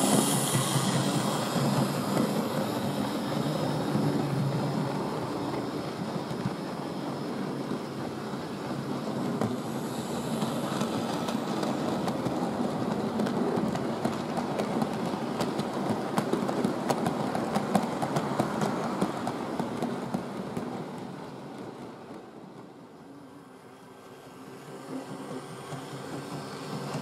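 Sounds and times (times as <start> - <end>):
model train rumbling: 0.0 - 27.0
wheels clicking on track: 0.0 - 27.0.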